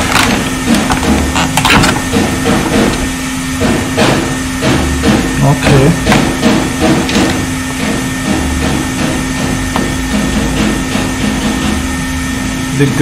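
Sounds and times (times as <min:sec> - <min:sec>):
hand tools knocking and clicking: 0:00.0 - 0:11.8
steady low hum: 0:00.0 - 0:13.0.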